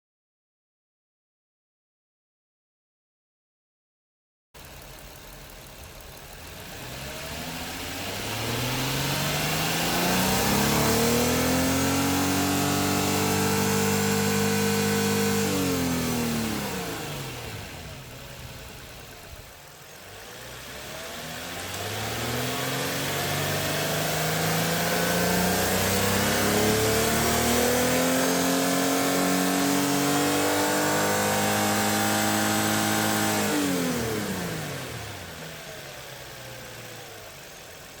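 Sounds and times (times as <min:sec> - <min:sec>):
car engine revving: 0:04.6 - 0:38.0.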